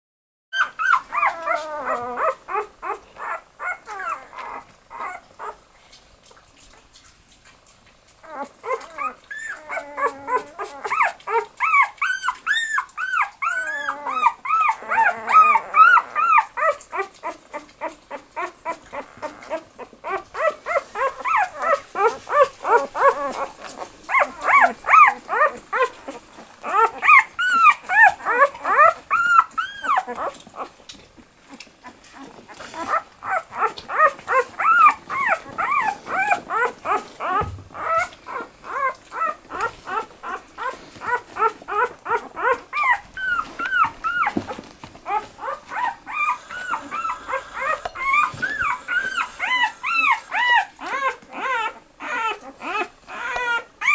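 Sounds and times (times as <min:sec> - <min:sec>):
puppies squeaking and whimpering: 0:00.6 - 0:06.0, 0:08.1 - 0:53.9.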